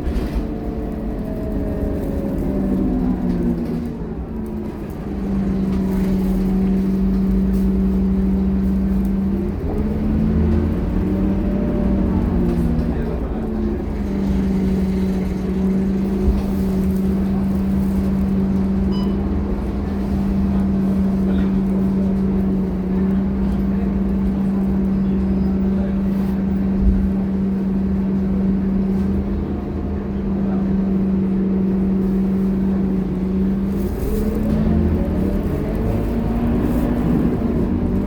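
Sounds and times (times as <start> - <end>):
bus engine droning: 0.0 - 38.0.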